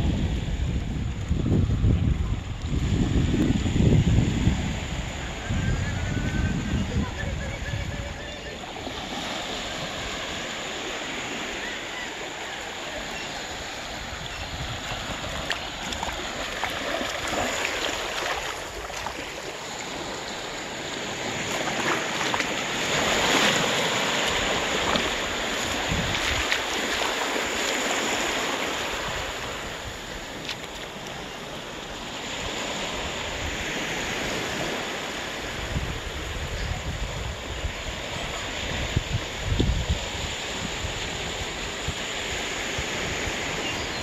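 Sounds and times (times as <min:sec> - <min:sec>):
waves breaking on shore: 0:00.0 - 0:44.0.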